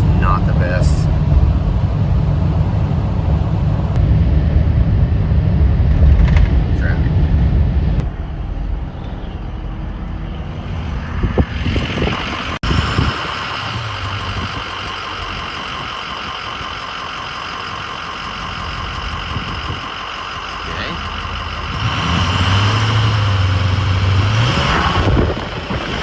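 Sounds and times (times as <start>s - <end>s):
engine and road drone: 0.0s - 26.0s.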